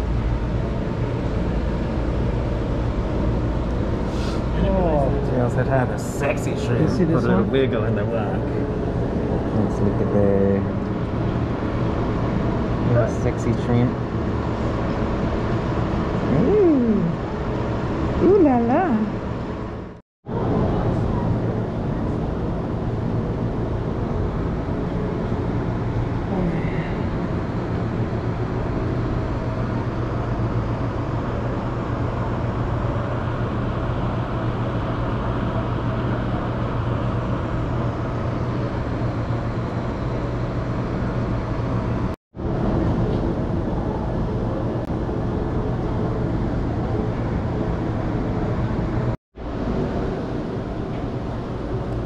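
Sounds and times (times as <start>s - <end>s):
aquarium gallery background hum: 0.0s - 52.0s.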